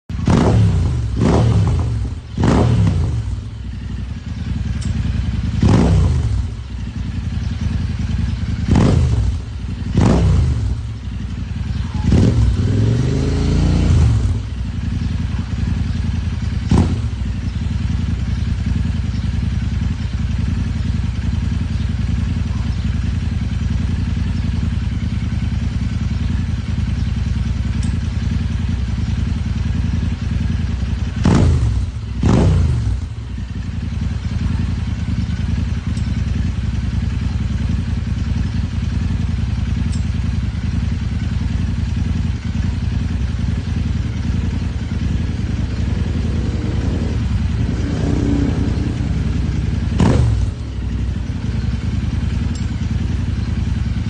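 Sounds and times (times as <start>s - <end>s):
engine rumbling: 0.1s - 54.0s.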